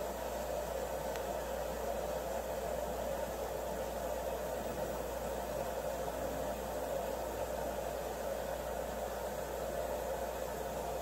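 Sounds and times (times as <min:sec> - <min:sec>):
water filling washing machine: 0:01.8 - 0:11.0.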